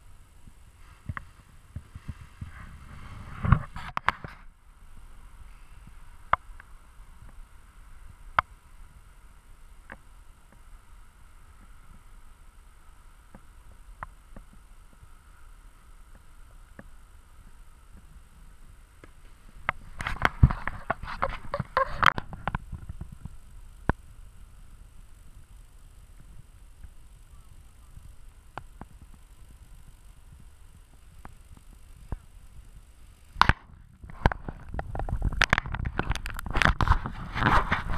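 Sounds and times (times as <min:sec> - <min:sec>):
wind rumbling on microphone: 0:00.0 - 0:37.9.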